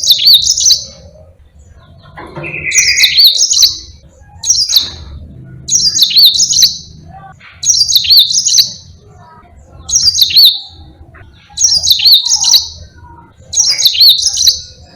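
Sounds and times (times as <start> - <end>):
canary twittering song: 0.0 - 14.9.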